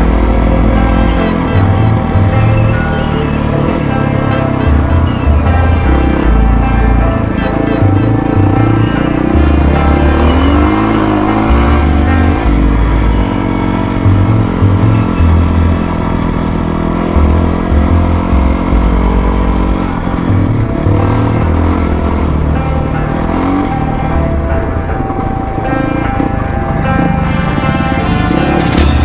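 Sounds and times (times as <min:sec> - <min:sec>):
music with heavy bass line: 0:00.0 - 0:16.0, 0:17.0 - 0:29.0
dirt bike engine revving: 0:00.0 - 0:29.0.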